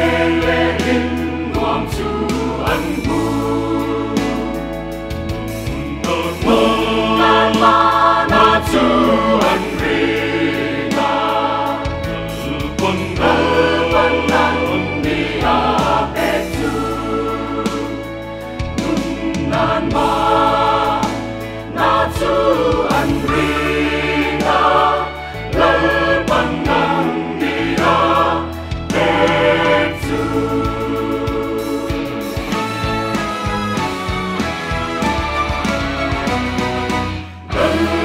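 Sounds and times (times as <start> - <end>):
choir singing a hymn: 0.0 - 38.0.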